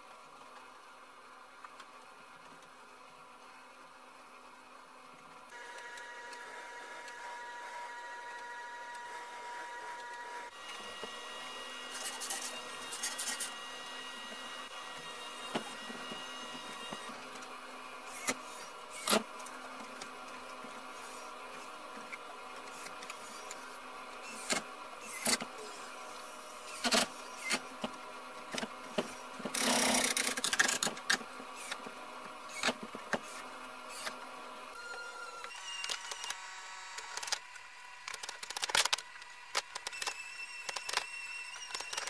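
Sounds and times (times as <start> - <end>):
steady mechanical hum: 0.0 - 42.0.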